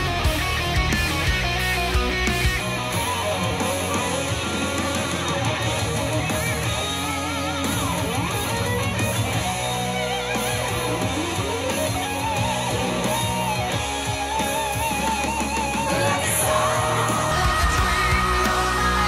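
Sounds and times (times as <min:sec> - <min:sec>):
guitar lead melody with vibrato: 0:00.0 - 0:19.0
steady bass: 0:00.0 - 0:19.0.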